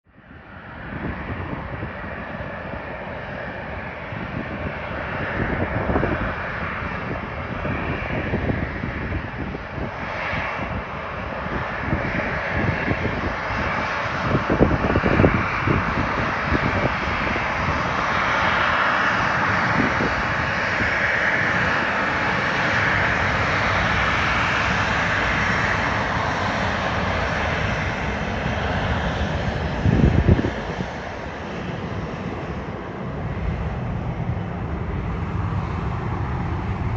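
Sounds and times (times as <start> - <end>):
airliner engines running: 0.1 - 36.9.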